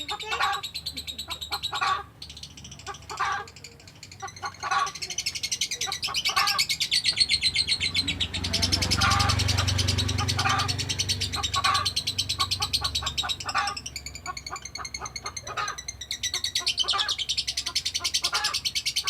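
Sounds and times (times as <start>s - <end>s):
lovebird chattering trill: 0.0s - 19.0s.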